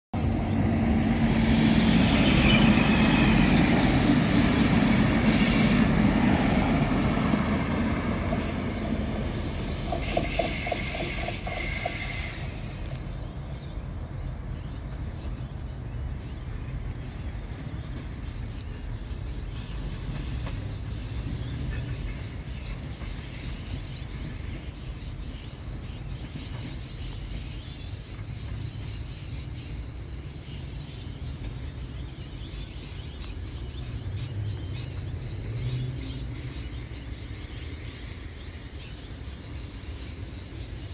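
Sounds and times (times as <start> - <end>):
diesel railcar rumbling: 0.1 - 40.9.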